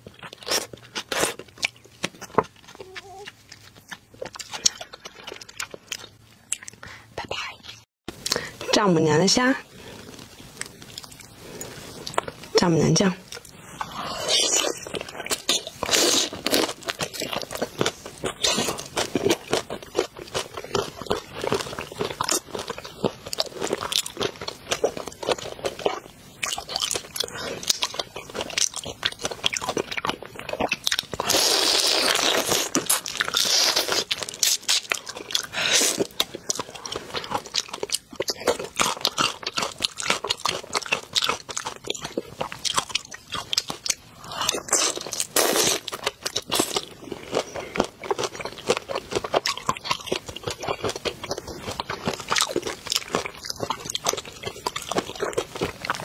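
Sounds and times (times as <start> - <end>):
shrimp shells crunching while chewing: 0.0 - 6.8, 13.3 - 56.0.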